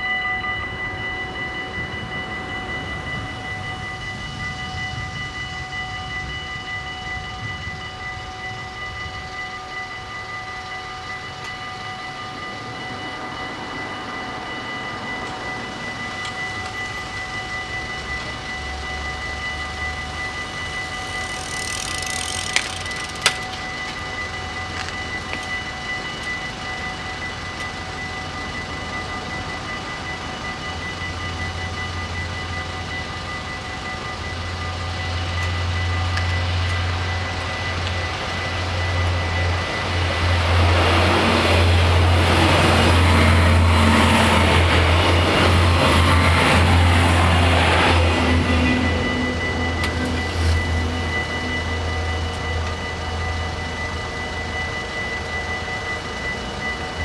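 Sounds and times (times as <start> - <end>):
diesel railcar engine rumble: 0.0 - 57.0
level crossing bells ringing: 0.0 - 57.0
train wheel noise: 0.0 - 57.0.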